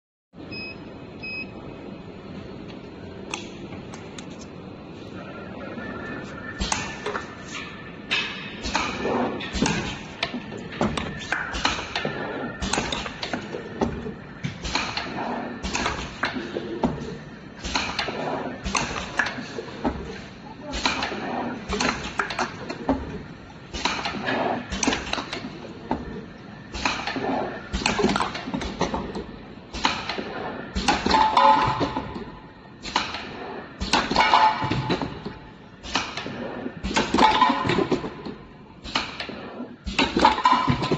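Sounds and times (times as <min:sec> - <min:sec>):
machine clacking and knocking: 0:08.1 - 0:40.9.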